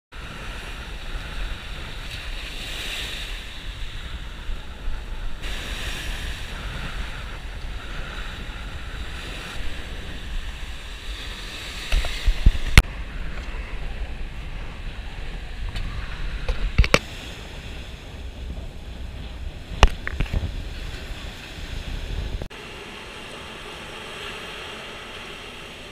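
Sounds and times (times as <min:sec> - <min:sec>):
wind on microphone: 0:00.1 - 0:25.9
surf breaking on shore: 0:00.2 - 0:25.9.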